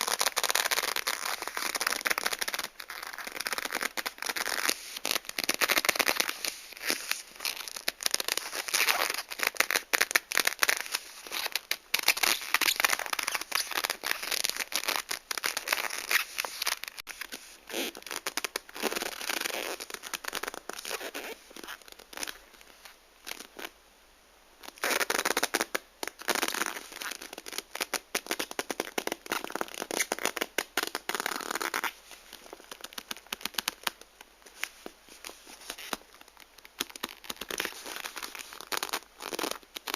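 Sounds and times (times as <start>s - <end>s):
leather glove rubbing and squeaking: 0.0s - 23.7s, 24.6s - 39.9s.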